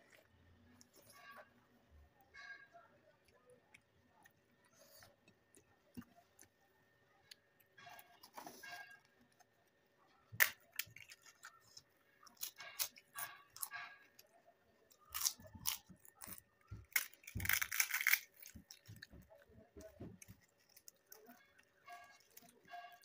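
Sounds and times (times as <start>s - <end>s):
crunching of crisp food: 2.3s - 23.0s.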